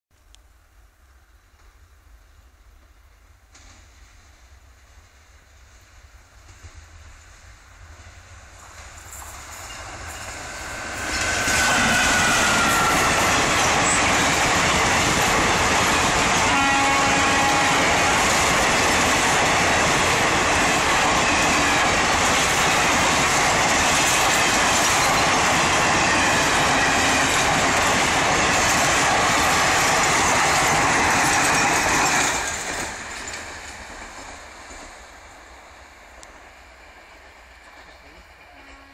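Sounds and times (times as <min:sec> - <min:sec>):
train wheels clattering on rails: 0:05.9 - 0:38.8.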